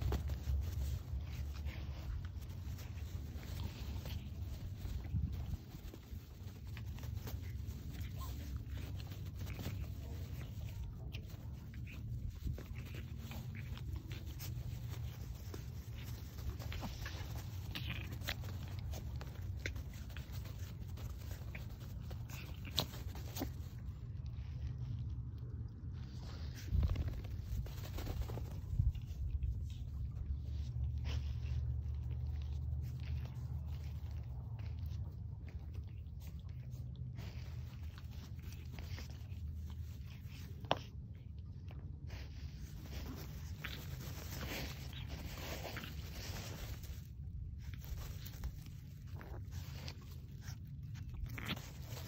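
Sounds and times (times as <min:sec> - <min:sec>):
puppies scuffling: 0:00.0 - 0:52.0
steady low rumble: 0:00.0 - 0:52.0.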